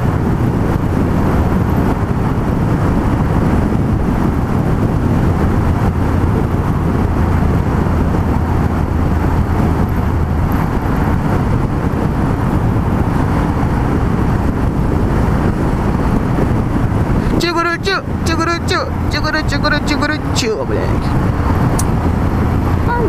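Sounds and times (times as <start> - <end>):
motorcycle engine cruising: 0.0 - 23.0
road noise rush: 0.0 - 23.0
steady low hum: 0.0 - 23.0.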